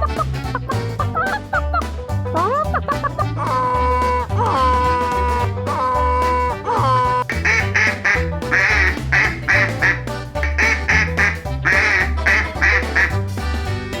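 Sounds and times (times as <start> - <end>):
background music with bass line: 0.0 - 14.0
duck quacking: 2.4 - 14.0.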